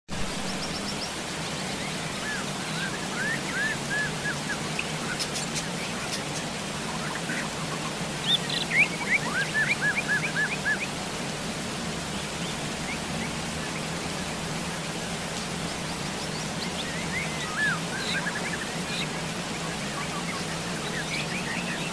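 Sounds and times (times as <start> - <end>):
steady rain: 0.1 - 21.9.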